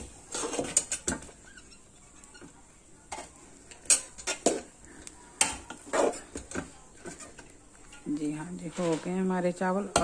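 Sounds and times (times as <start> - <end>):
spatula scraping steel pot: 0.0 - 4.8, 5.4 - 10.0.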